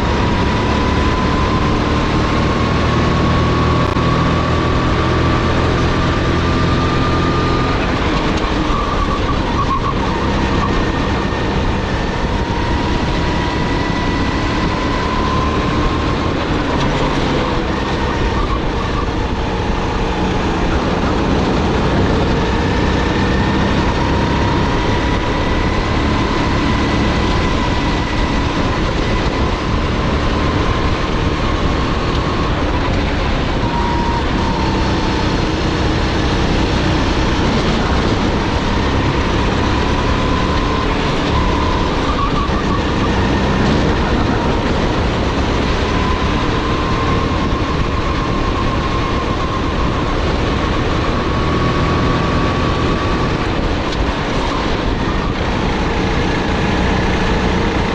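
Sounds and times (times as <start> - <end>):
kart engine running hard: 0.0 - 57.9
wind and road noise: 0.0 - 57.9.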